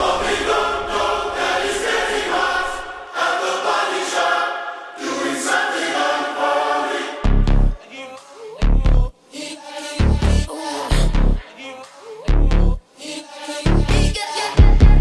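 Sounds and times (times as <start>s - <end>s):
voices singing held chords: 0.0s - 15.0s.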